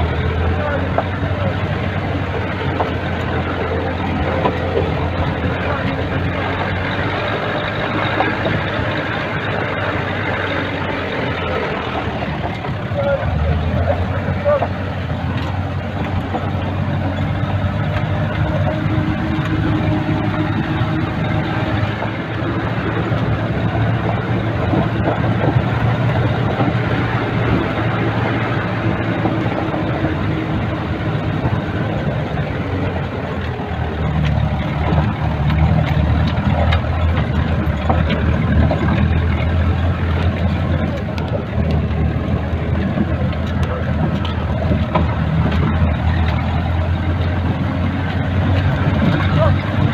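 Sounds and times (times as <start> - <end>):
car engine running: 0.0 - 49.9
car rattles and knocks: 0.0 - 49.9
tires on gravel: 0.0 - 49.9.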